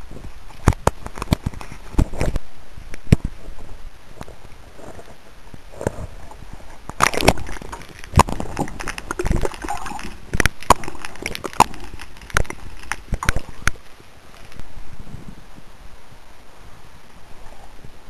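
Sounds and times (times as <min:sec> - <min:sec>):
rough background noise: 0:00.0 - 0:15.7.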